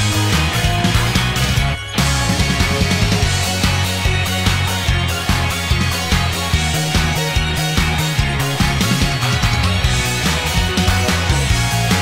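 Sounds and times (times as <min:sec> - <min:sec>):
upbeat song with driving beat: 0:00.0 - 0:12.0.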